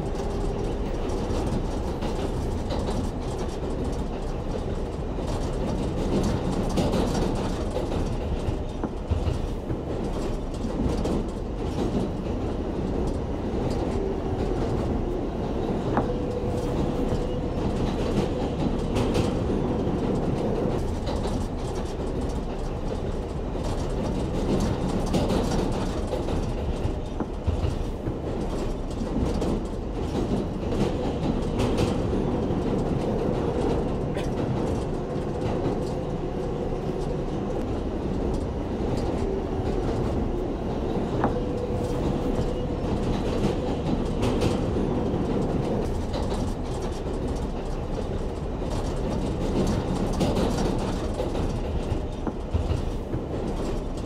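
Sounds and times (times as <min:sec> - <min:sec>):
rail joint clicks: 0:00.0 - 0:54.0
train wheels rumbling on rail: 0:00.0 - 0:54.0.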